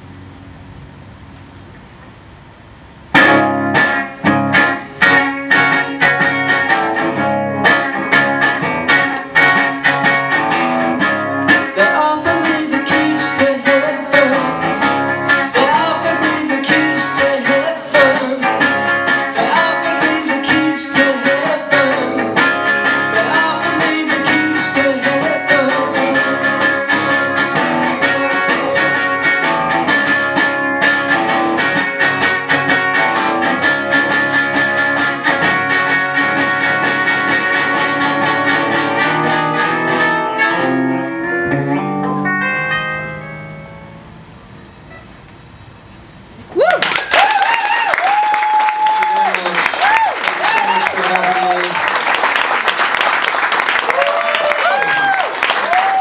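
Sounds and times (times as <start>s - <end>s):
electric guitar playing: 3.0s - 45.9s, 48.8s - 56.0s.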